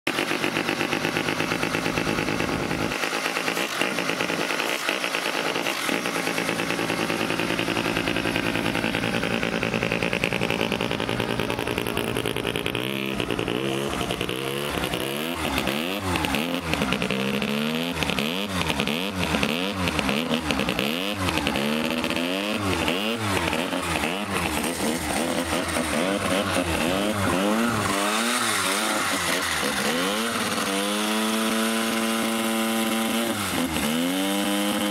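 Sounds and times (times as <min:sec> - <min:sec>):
kart engine idling and revving: 0:00.0 - 0:34.9.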